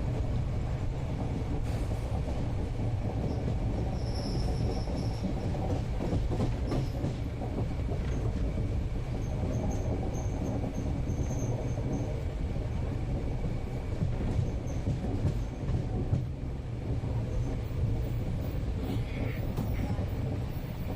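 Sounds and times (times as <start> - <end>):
train rumble: 0.0 - 20.9.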